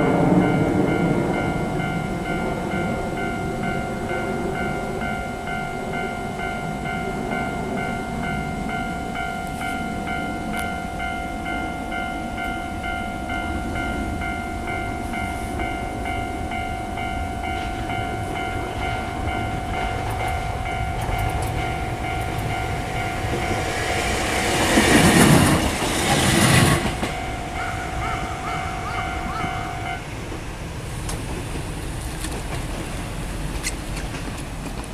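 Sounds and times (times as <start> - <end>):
level-crossing warning bell: 0.0 - 32.3
train rushing past: 0.0 - 34.9.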